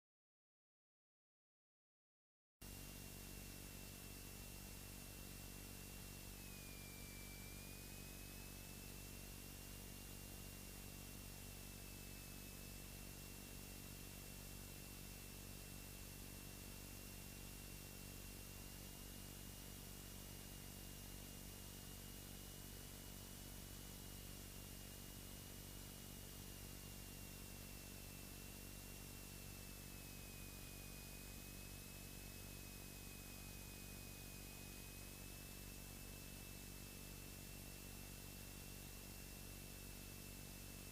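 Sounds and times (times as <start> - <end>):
cockpit hiss and hum: 2.6 - 40.9
thin high whine: 2.7 - 40.9.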